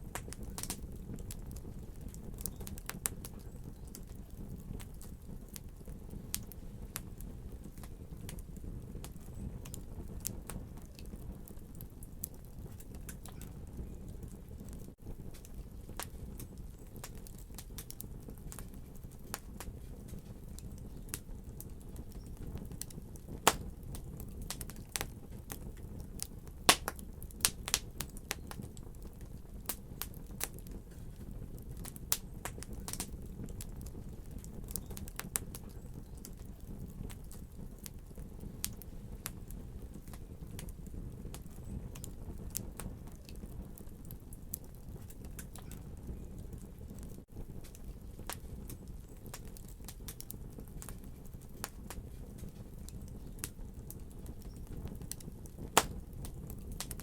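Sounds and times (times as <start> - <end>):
fire popping and snapping: 0.0 - 57.0
low rumble of flames: 0.0 - 57.0.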